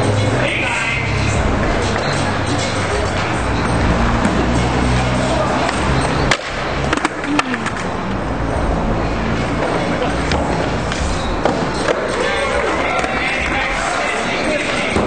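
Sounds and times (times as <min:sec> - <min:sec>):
crowd chatter: 0:00.0 - 0:15.0
skateboards rolling on pavement: 0:00.0 - 0:15.0
skateboards clacking on ground: 0:00.1 - 0:08.0, 0:09.6 - 0:15.0.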